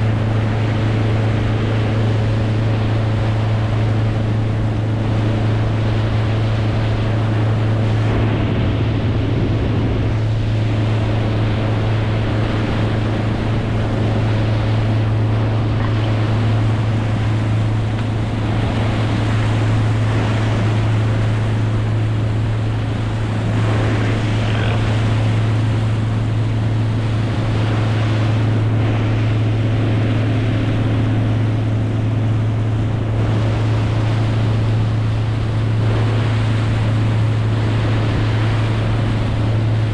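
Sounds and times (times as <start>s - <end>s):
boat motor droning: 0.0s - 39.9s
rushing water: 0.0s - 39.9s
wind noise: 0.0s - 39.9s.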